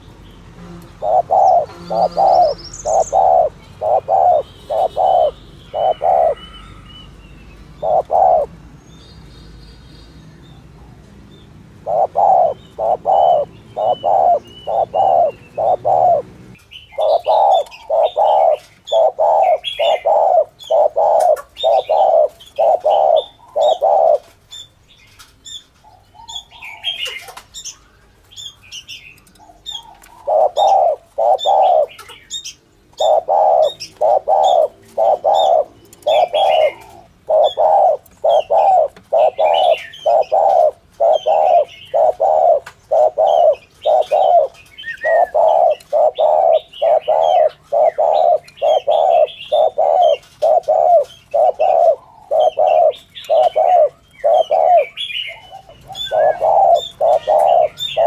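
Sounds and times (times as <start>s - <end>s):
small birds chirping: 0.0s - 58.0s
dove cooing: 0.6s - 7.1s, 7.7s - 8.5s, 11.8s - 24.4s, 25.8s - 27.6s, 29.4s - 58.0s.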